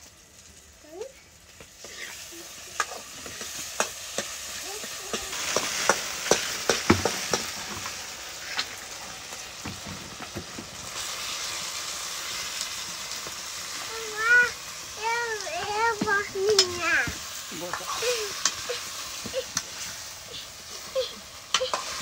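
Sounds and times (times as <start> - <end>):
hot oil sizzling in a wok: 0.0 - 22.0.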